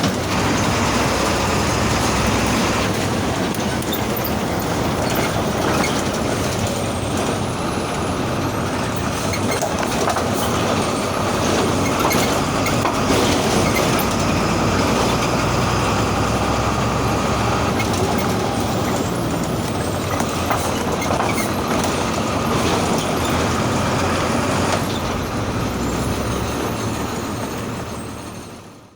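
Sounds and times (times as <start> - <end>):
diesel bus engine running: 0.0 - 28.9.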